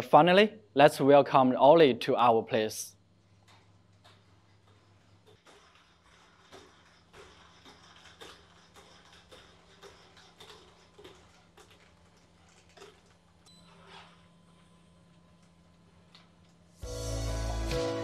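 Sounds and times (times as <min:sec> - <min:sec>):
steady low hum: 0:00.0 - 0:17.5.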